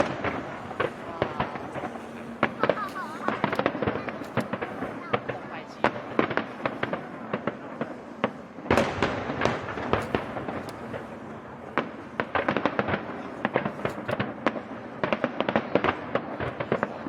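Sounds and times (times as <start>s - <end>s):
fireworks crackling: 0.0s - 17.0s
heavy firework burst: 0.0s - 17.0s.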